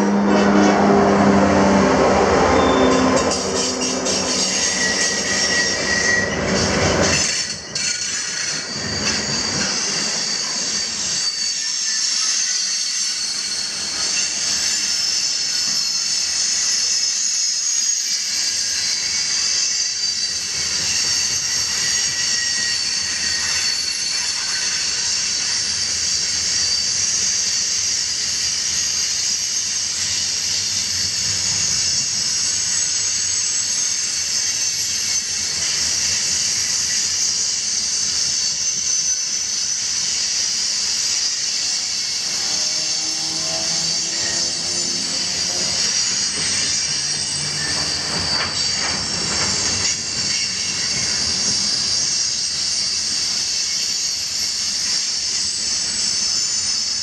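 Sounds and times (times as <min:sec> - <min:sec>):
high-pitched wheel squeal: 0:00.0 - 0:57.0
train wheels rumbling on rail: 0:00.0 - 0:57.0.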